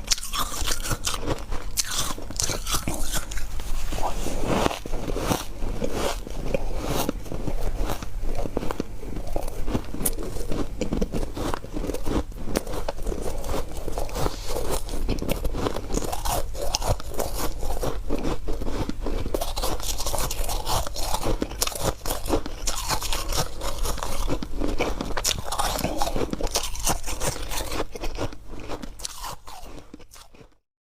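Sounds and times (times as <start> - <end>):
crunching and chewing ice: 0.0 - 30.6.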